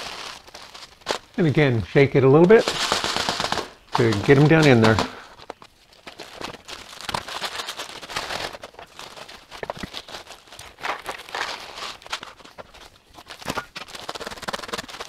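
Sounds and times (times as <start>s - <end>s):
dry rice grains rattling: 0.0s - 15.0s
foil pouch crinkling: 0.0s - 15.0s.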